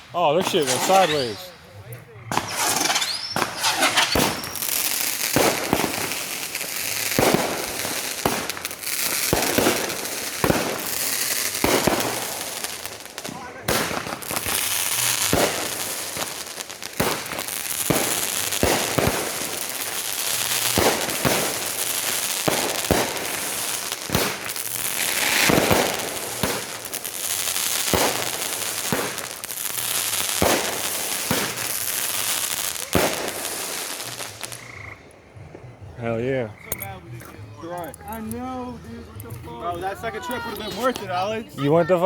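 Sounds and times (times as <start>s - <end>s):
fireworks crackling hiss: 0.0s - 35.6s, 37.9s - 41.9s
fireworks bangs: 0.0s - 35.7s.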